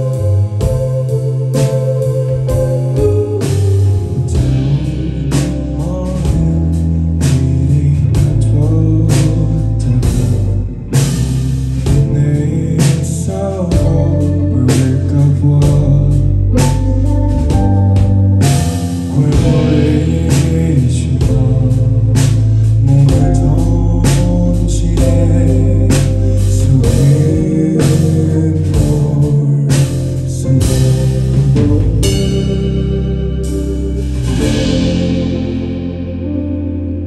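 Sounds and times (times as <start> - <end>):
man singing: 0.0 - 33.2
live band playing: 0.0 - 37.0.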